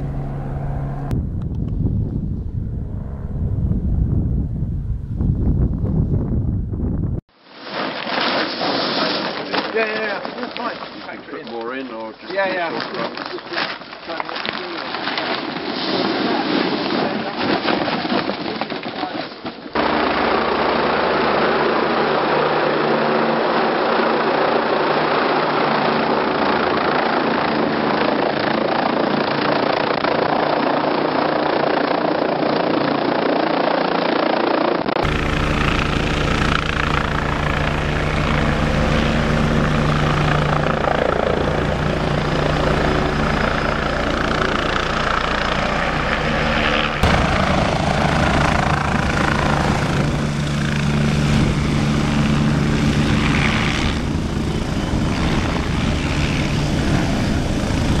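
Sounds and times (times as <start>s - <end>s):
helicopter rotor and engine: 0.0s - 5.8s, 9.6s - 15.4s, 19.7s - 58.0s.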